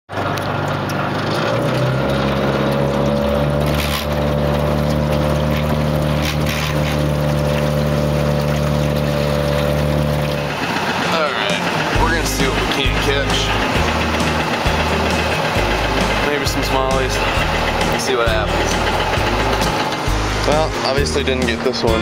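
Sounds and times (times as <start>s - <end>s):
outboard motor running: 0.1s - 22.0s
water rushing: 0.1s - 22.0s.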